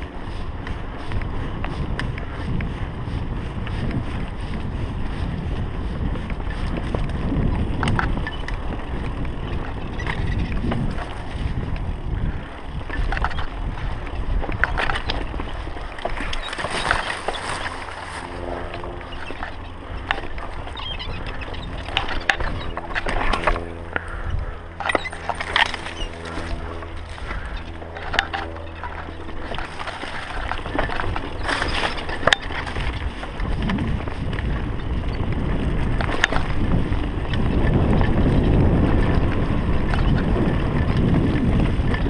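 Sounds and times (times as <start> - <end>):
mountain bike rattling on trail: 0.0 - 42.0
wind rumbling on microphone: 0.0 - 42.0.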